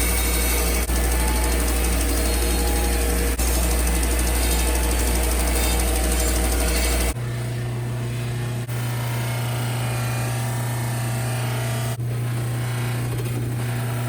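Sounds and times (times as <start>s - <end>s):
power tool motor running: 0.0s - 7.2s, 8.6s - 14.0s.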